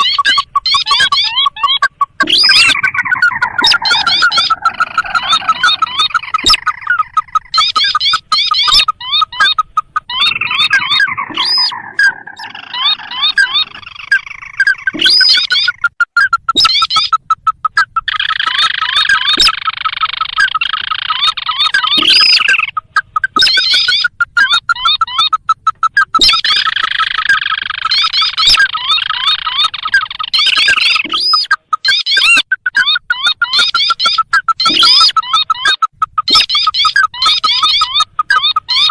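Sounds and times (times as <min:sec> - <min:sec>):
birds calling rapid rising notes: 0:00.0 - 0:38.9.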